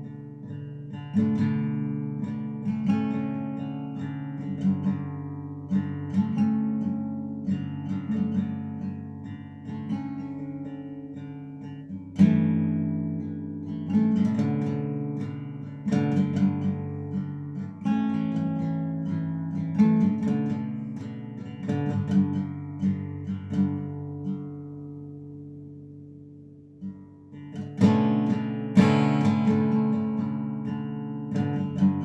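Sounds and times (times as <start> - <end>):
acoustic guitar chords ringing: 0.0 - 32.0.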